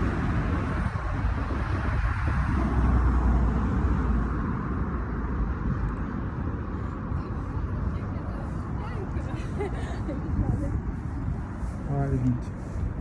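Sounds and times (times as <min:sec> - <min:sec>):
low city rumble: 0:00.0 - 0:13.0.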